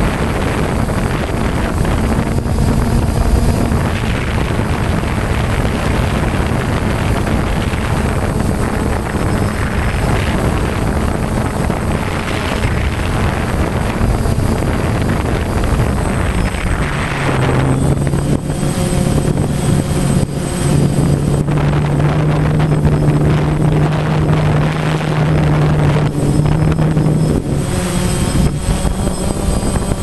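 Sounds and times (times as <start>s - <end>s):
drone propellers whirring: 0.0s - 30.0s
steady low hum: 0.0s - 30.0s
wind rushing over microphone: 0.0s - 30.0s.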